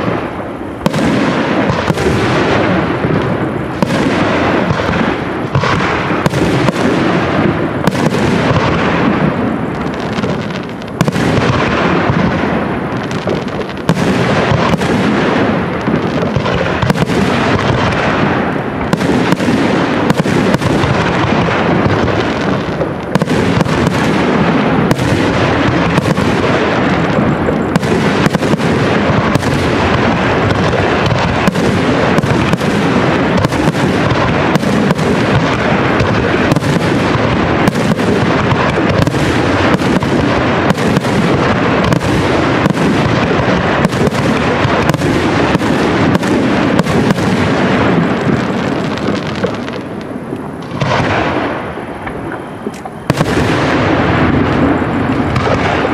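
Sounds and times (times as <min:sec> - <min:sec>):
fireworks bursts: 0:00.0 - 0:55.9.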